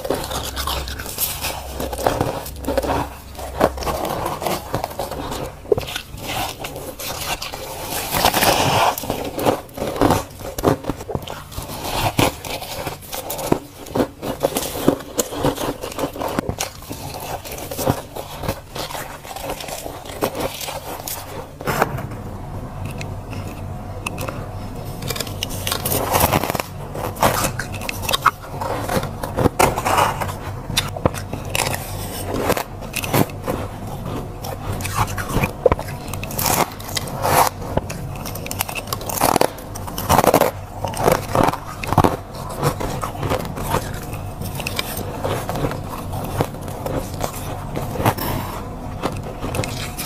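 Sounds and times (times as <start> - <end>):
spoon scraping frost: 0.0 - 21.9, 22.8 - 50.0
low hum: 0.0 - 50.0.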